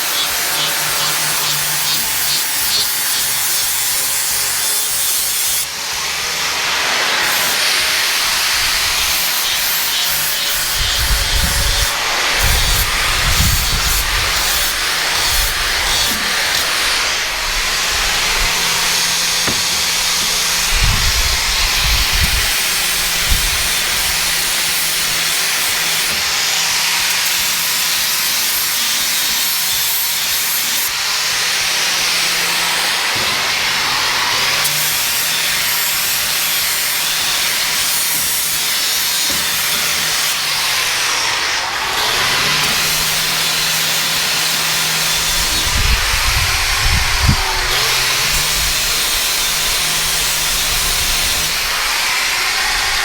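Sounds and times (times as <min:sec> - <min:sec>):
angle grinder grinding metal: 0:00.0 - 0:53.0.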